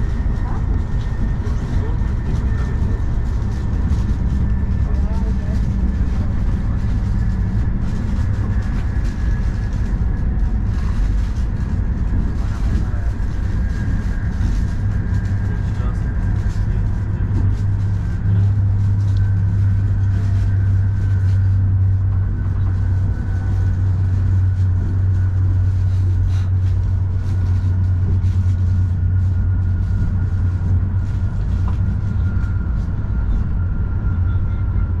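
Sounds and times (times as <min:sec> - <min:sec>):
vehicle low rumble: 0:00.0 - 0:35.0.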